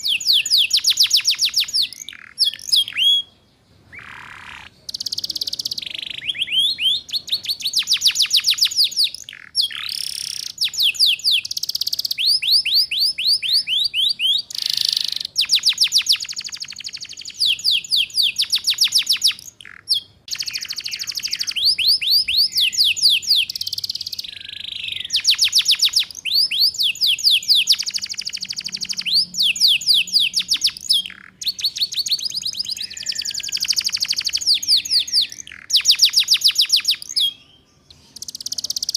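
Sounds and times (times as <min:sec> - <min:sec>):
canary trilling: 0:00.0 - 0:38.9.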